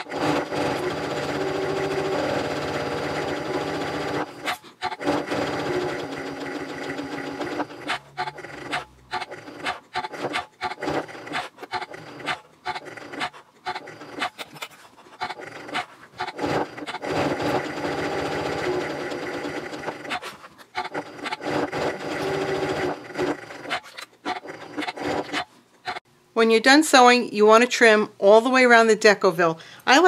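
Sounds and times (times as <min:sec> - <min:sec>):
sewing machine stitching: 0:00.0 - 0:26.0.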